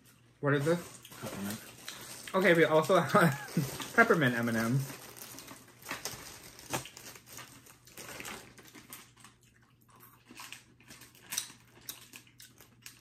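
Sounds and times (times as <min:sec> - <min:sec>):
candy packet crinkling: 0:00.4 - 0:13.0.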